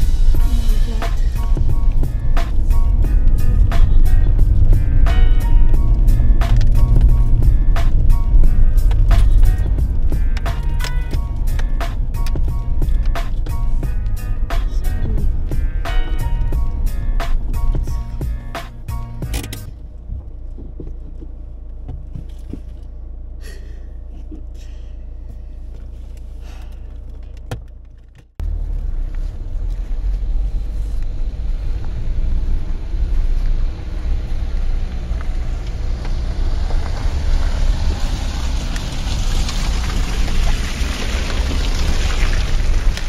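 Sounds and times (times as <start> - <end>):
car engine running: 0.0 - 43.0
engine and road drone inside car: 0.0 - 43.0
tyres through mud and gravel: 0.0 - 43.0.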